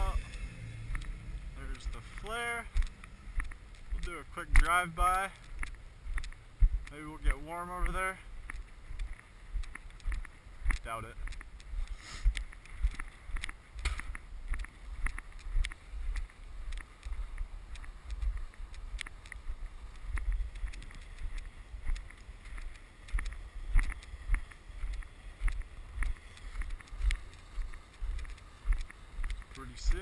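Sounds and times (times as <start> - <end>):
footsteps crunching in snow: 0.0 - 30.0.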